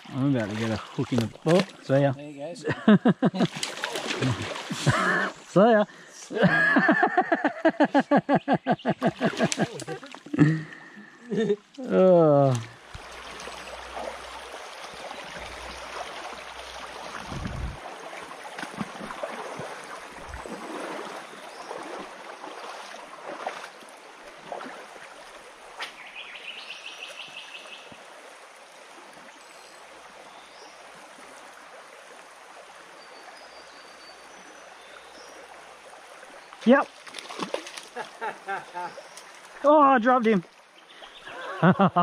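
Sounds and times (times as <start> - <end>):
stream rushing over stones: 0.0 - 2.5, 3.3 - 6.4, 9.1 - 41.4.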